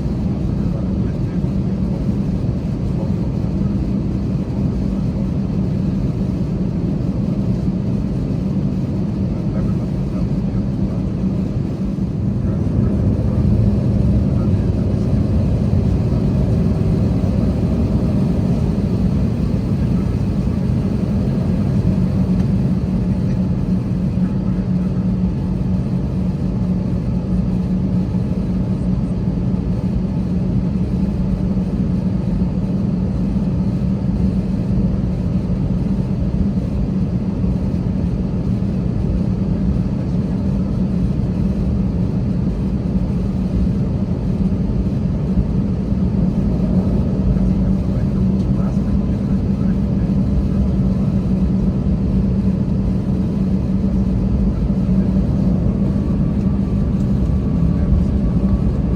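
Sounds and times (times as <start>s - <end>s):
airliner cabin engine noise: 0.0s - 58.9s.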